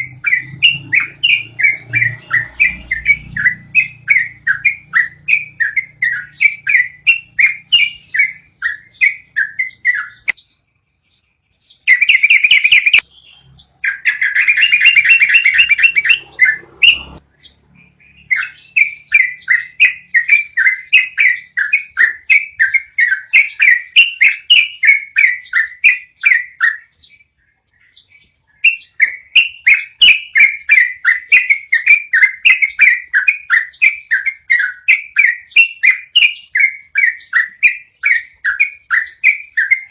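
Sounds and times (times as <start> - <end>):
bird trill: 0.0 - 39.9
bulbul song: 0.0 - 39.9.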